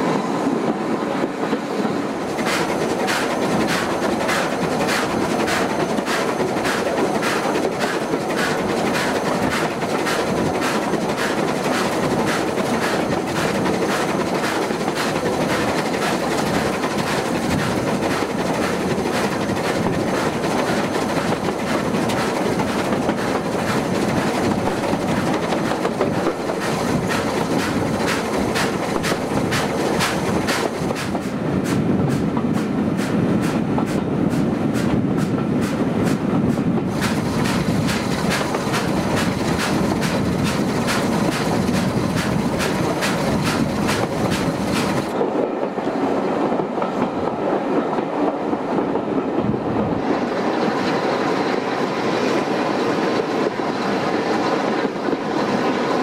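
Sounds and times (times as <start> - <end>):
train wheels and rushing air: 0.0 - 56.0.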